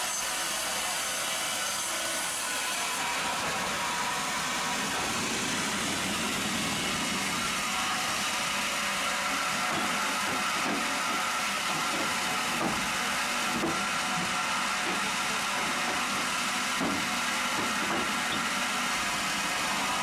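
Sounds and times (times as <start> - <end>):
sawmill machinery hissing: 0.0 - 20.0.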